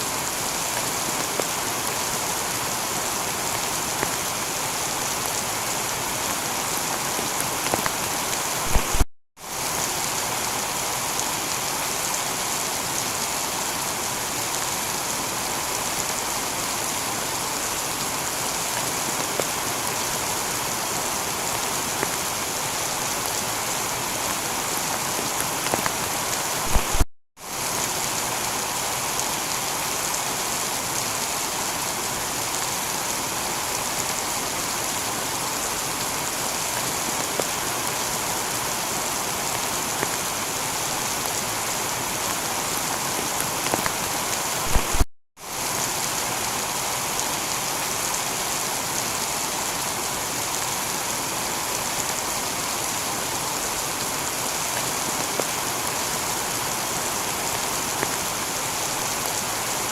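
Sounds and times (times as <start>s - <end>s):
heavy rain on a tiled roof: 0.0s - 59.9s.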